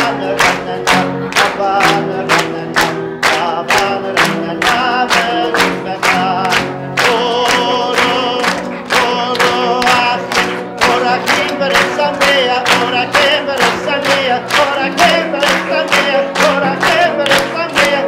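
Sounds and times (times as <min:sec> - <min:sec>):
audience clapping in time: 0:00.0 - 0:18.0
choir singing lively song: 0:00.0 - 0:18.0.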